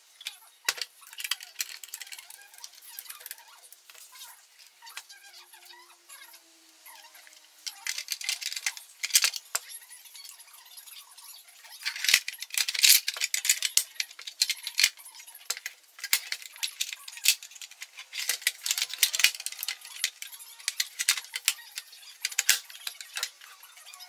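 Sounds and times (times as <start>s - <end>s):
plastic clicks and rattles: 0.2s - 5.1s, 7.2s - 10.4s, 11.7s - 24.0s.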